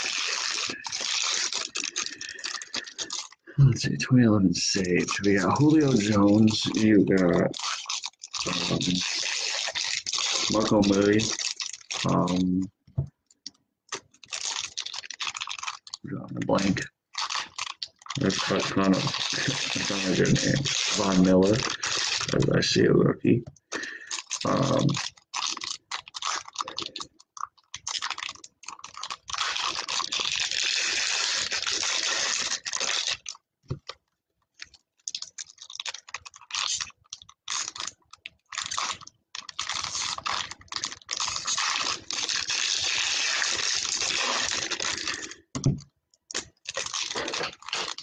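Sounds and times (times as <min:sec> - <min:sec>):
foil wrappers crinkling and tearing: 0:00.0 - 0:03.6, 0:04.6 - 0:12.6, 0:13.3 - 0:22.9, 0:23.6 - 0:48.0.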